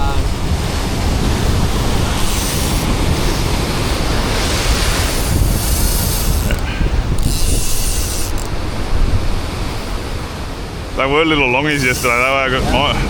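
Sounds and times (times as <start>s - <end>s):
ocean surf breaking on rocks: 0.0s - 13.0s
wind buffeting microphone: 0.0s - 13.0s.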